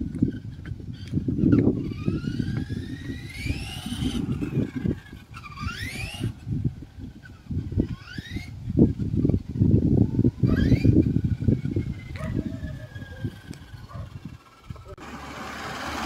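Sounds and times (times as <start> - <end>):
electric motor whining: 0.1 - 16.0.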